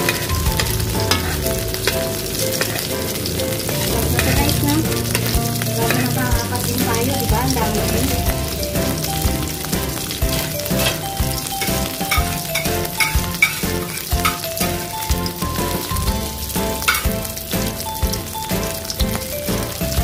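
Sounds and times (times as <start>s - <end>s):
omelette sizzling in hot oil: 0.0s - 20.0s.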